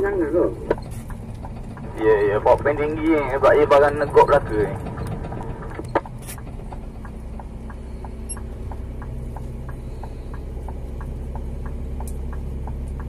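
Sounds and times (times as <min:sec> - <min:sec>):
diesel truck engine idling: 0:00.0 - 0:13.0
light engine ticking: 0:00.0 - 0:13.0.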